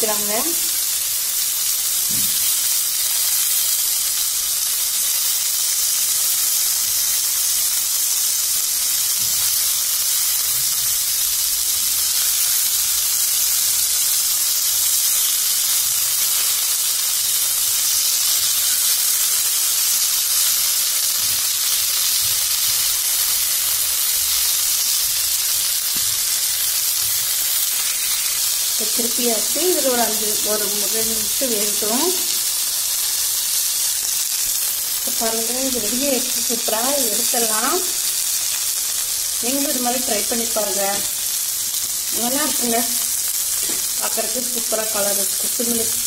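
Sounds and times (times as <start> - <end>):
prawns sizzling in oil: 0.0 - 46.0.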